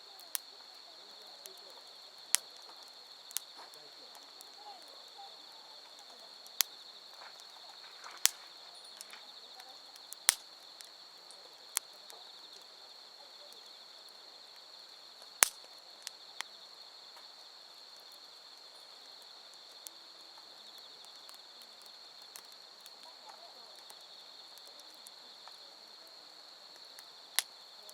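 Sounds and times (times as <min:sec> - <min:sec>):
campfire crackling and popping: 0:00.0 - 0:27.9
night insects chorus: 0:00.0 - 0:27.9.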